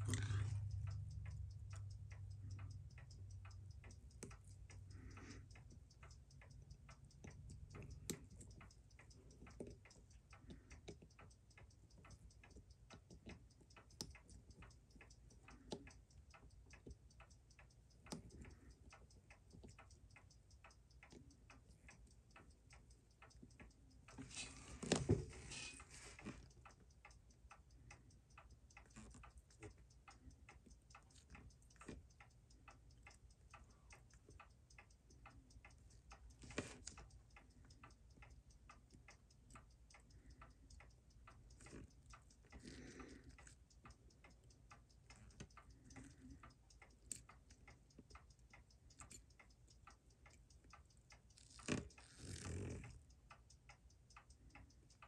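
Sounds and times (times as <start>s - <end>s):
watch movement ticking fast: 0.0s - 55.0s.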